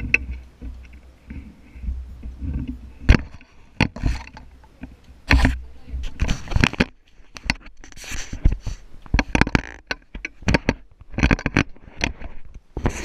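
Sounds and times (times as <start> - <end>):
clicks and knocks on camera: 0.0 - 13.0.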